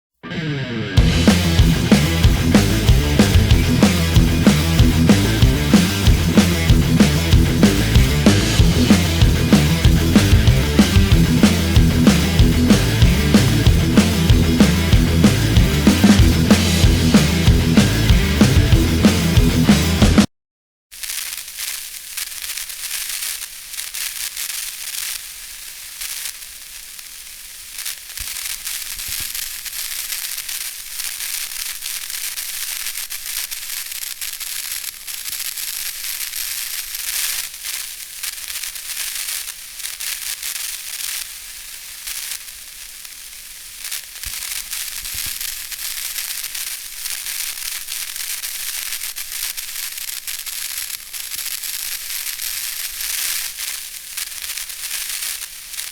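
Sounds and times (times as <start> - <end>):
electric static crackling hiss: 1.0 - 20.2, 21.0 - 55.9.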